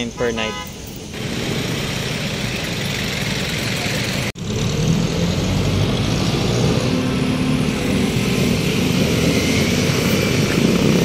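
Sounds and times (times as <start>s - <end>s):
busy road traffic rumble: 0.0s - 11.0s.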